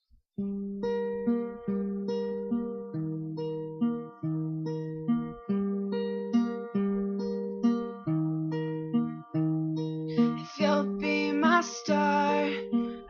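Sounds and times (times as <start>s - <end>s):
acoustic guitar picking chords: 0.4s - 13.0s.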